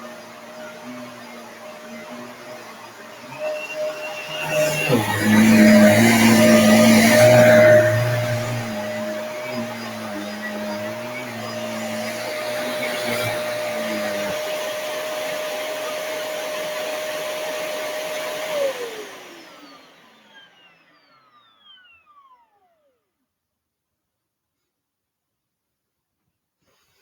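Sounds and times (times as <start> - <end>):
motor spinning down: 0.0 - 23.0
vacuum cleaner motor whine: 0.0 - 23.2.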